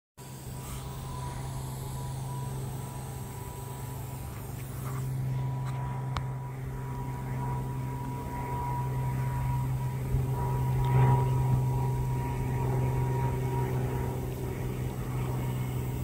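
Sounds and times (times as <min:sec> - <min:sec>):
propeller plane drone: 0:00.2 - 0:16.0.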